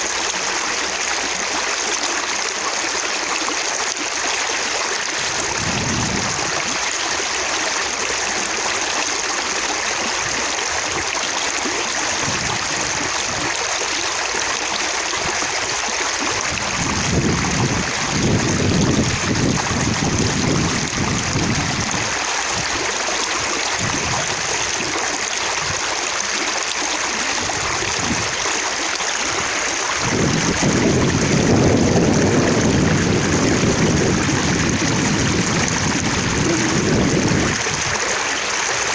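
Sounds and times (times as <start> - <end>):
running water splashing: 0.0 - 38.9.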